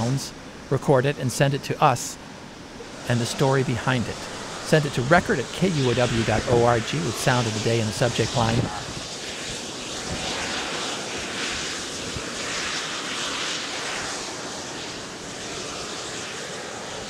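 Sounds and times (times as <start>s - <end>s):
fumarole roaring: 0.0s - 17.0s.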